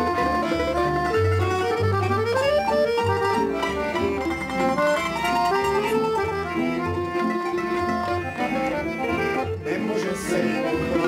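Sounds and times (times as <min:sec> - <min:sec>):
folk band with plucked strings: 0:00.0 - 0:11.0.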